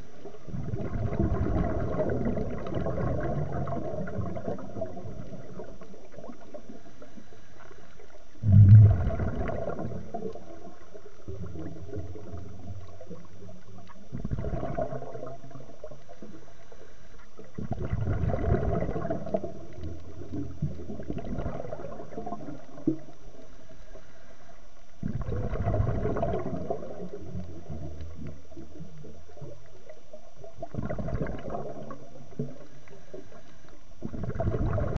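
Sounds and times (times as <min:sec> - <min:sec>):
exhaled bubbles rushing: 0:00.0 - 0:06.8, 0:08.4 - 0:16.4, 0:17.4 - 0:23.4, 0:25.0 - 0:33.2, 0:34.0 - 0:35.0
low steady rumble: 0:00.0 - 0:30.8.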